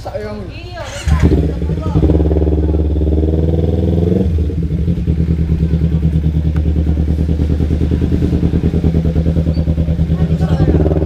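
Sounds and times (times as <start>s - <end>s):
motorcycle engine throbbing: 0.9s - 11.0s.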